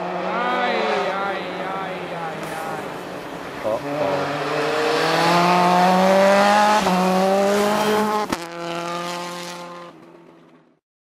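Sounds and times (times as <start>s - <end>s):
rally car engine revving: 0.0s - 10.4s.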